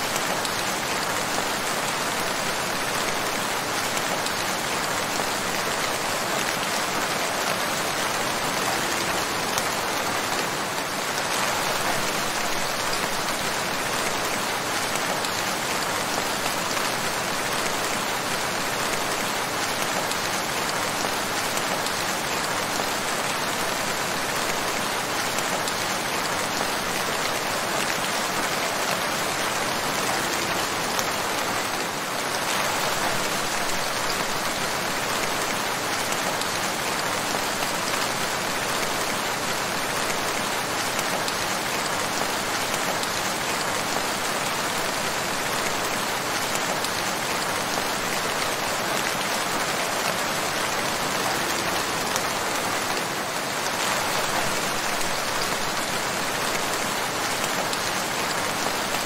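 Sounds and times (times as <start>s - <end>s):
rain falling steadily: 0.0s - 59.0s.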